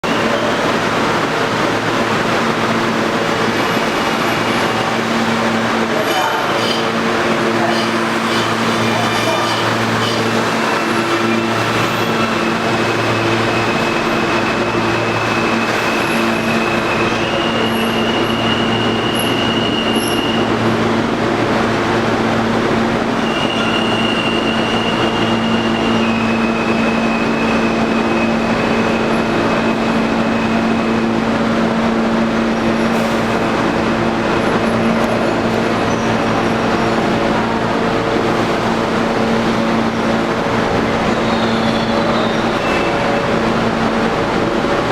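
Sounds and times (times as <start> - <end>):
steel wheels rumbling on rails: 0.0 - 44.9.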